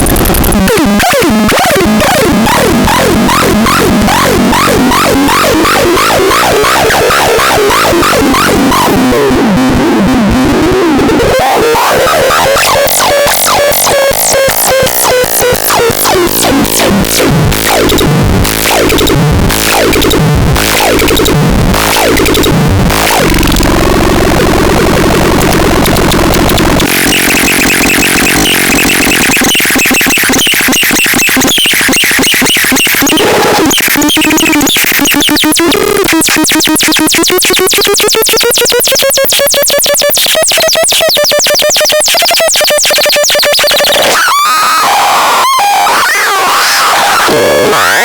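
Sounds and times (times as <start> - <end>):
harsh synthesizer noise: 0.0 - 48.0.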